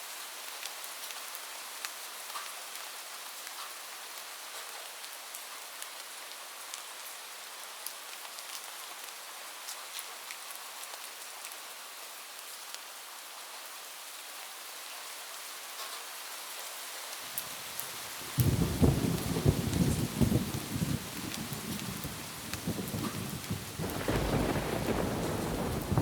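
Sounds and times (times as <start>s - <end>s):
rain on a roof: 0.0s - 26.0s.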